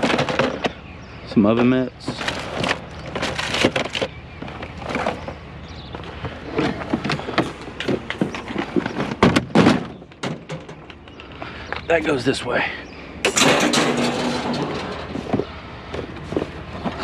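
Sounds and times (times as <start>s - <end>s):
objects knocking and clattering: 0.0s - 0.8s, 1.5s - 5.4s, 6.0s - 11.2s, 13.2s - 17.0s.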